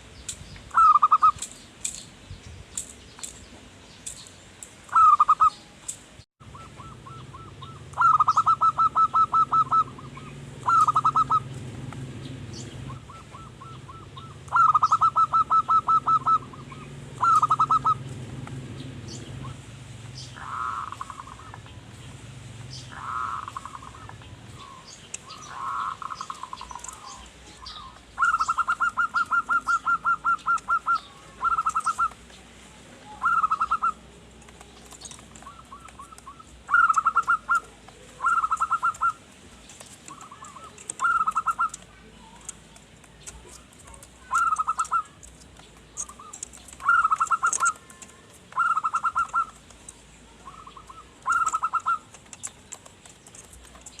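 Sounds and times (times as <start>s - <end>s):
faint small birds chirping: 0.0s - 54.0s
dove cooing: 0.7s - 1.5s, 4.9s - 5.7s, 6.4s - 22.0s, 22.7s - 39.3s, 40.0s - 42.5s, 43.2s - 54.0s.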